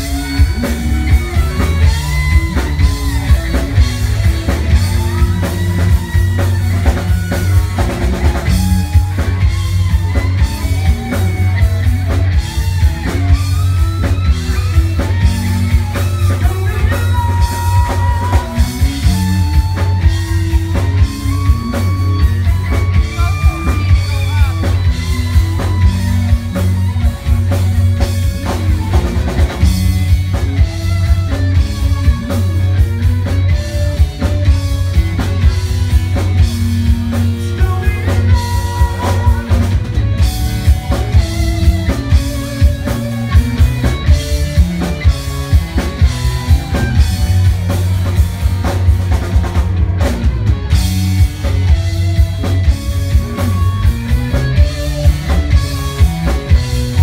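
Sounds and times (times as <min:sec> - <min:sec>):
bass drum beat: 0:00.0 - 0:57.0
live rock band playing: 0:00.0 - 0:57.0.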